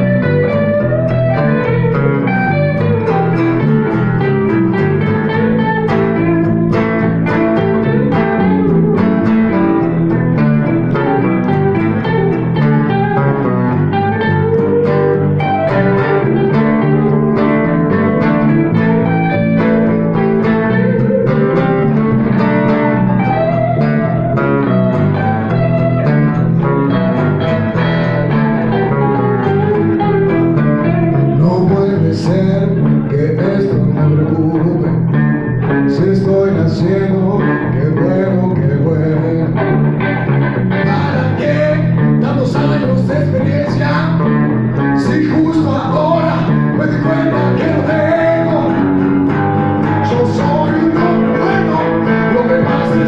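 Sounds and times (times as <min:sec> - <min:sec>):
acoustic guitar: 0:00.0 - 0:53.0
electric bass: 0:00.0 - 0:53.0.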